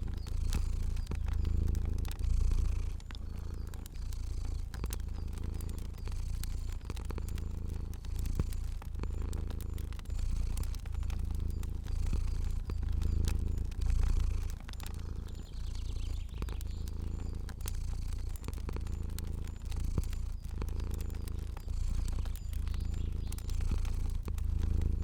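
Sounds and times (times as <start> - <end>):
cat purring: 0.0 - 25.0
wood fire crackling: 0.0 - 25.0.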